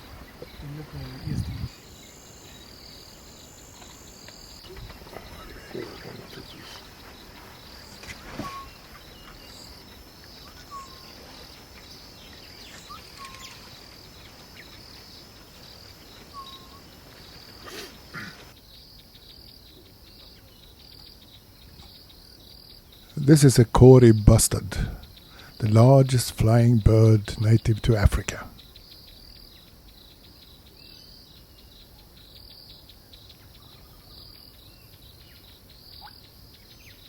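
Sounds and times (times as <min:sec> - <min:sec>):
bird chirps: 0:00.0 - 0:37.0
insects chirping: 0:00.0 - 0:37.0.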